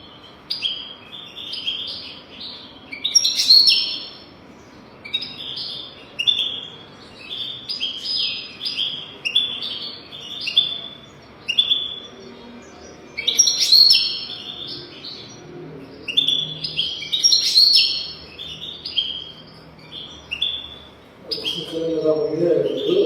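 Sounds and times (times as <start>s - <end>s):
goldfinch twittering song: 0.1s - 23.0s.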